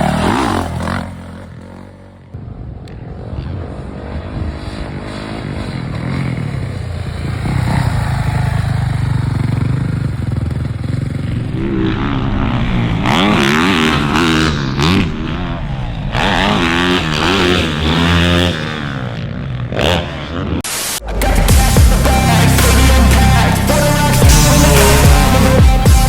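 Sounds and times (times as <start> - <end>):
motocross bike engine revving: 0.0 - 2.4, 3.0 - 26.0.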